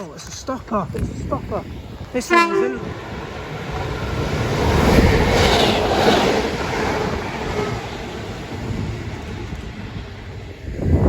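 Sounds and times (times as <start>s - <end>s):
passenger train passing: 0.0s - 11.0s.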